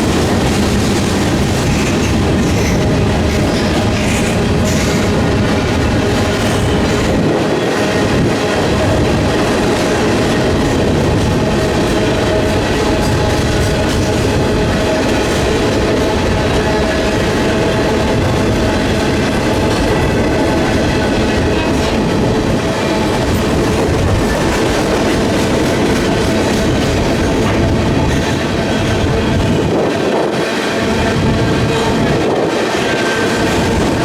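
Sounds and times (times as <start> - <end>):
steel wheels rumbling on rail: 0.0 - 34.0.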